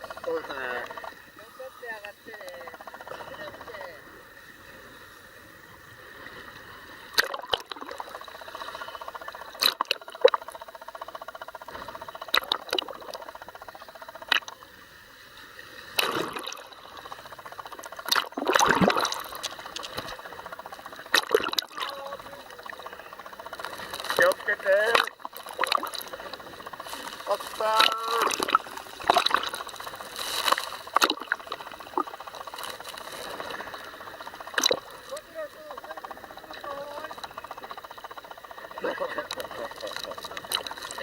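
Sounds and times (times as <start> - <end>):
faint steady hum: 0.0 - 41.0
water bubbling and splashing: 6.0 - 41.0.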